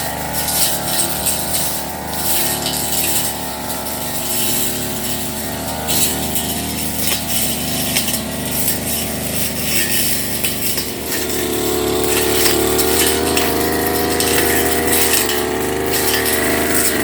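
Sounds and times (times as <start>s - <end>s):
brush cutter engine running: 0.0s - 17.0s
cutting head striking grass: 0.0s - 17.0s.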